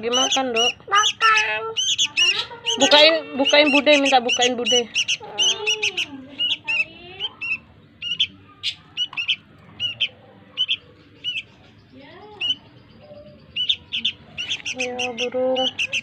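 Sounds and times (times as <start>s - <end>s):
young bird chirping: 0.0s - 16.0s.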